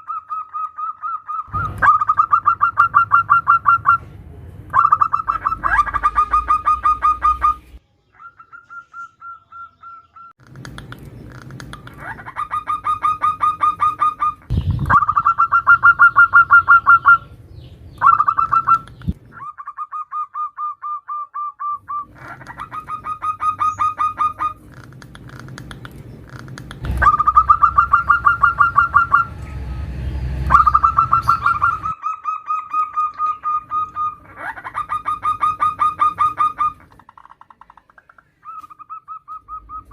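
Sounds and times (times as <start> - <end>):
dove cooing: 0.0 - 4.1, 4.7 - 10.3, 11.3 - 17.4, 18.0 - 29.4, 30.5 - 39.9.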